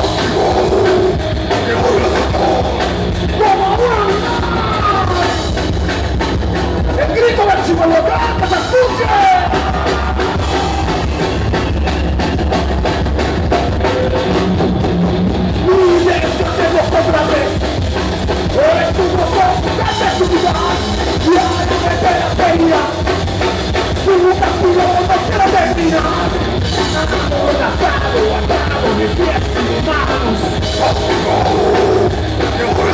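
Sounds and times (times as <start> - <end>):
vocalist singing and shouting: 0.0 - 5.6, 6.9 - 11.6, 15.5 - 32.9
live rock band playing: 0.0 - 32.9.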